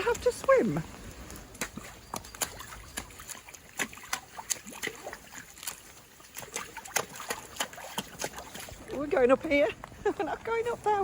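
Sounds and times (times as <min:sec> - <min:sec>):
splashing steps through shallow water: 0:00.0 - 0:11.0.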